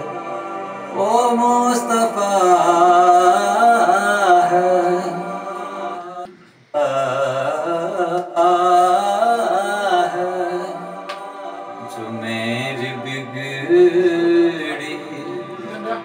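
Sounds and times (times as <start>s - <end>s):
man singing devotional verse: 0.8s - 16.0s.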